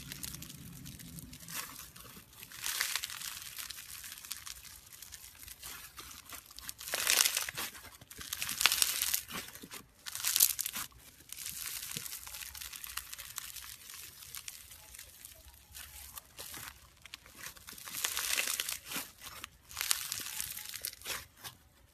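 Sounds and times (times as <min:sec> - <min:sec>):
foam slime crackling: 0:00.0 - 0:21.9.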